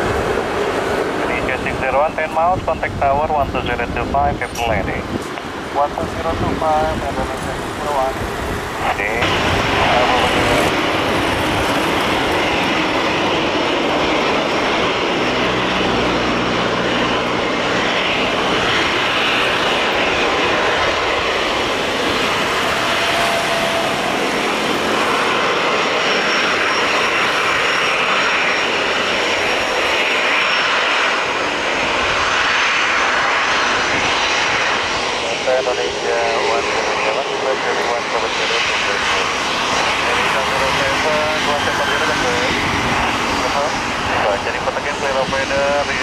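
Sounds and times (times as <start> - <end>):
jet engines running: 0.0 - 46.0.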